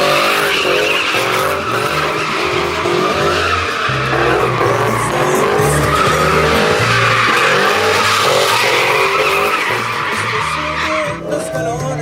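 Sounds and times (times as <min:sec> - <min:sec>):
truck tires squealing: 0:00.0 - 0:12.0.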